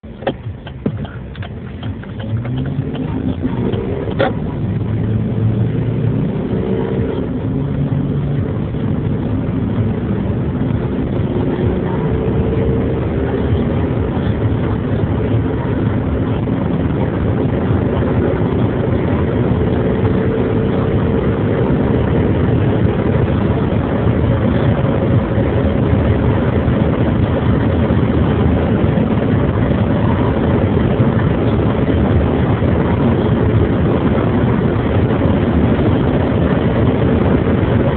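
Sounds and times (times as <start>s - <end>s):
diesel engine accelerating: 0.0s - 37.9s
road and wind noise: 0.0s - 37.9s.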